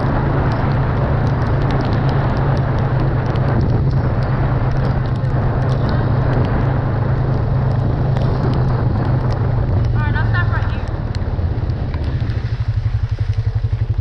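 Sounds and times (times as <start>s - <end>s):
off-road vehicle engine droning: 0.0s - 14.0s
small scattered clicks: 0.0s - 14.0s.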